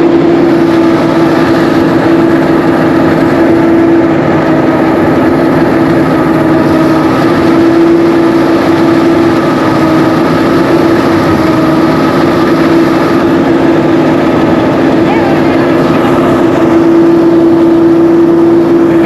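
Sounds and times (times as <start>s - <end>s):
threshing machine drone: 0.0s - 19.0s.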